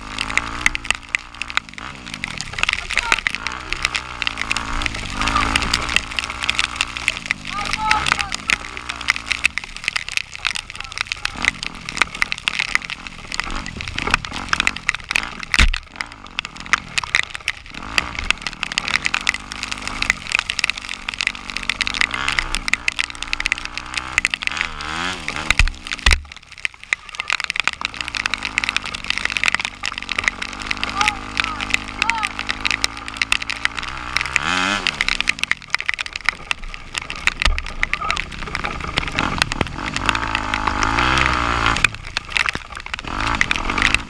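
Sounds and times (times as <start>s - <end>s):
rain pattering on camera: 0.0s - 44.0s
vehicle engine revving: 0.0s - 44.0s.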